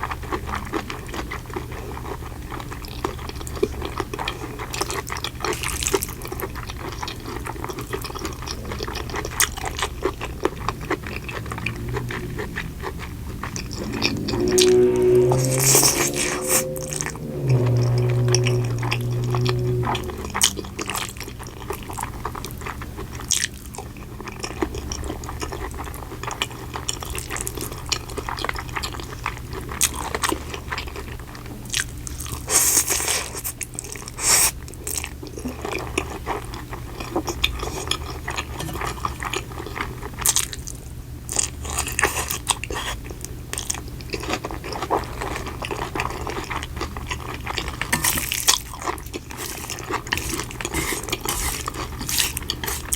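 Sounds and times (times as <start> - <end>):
person chewing crunchy food: 0.0 - 14.8, 20.0 - 52.9.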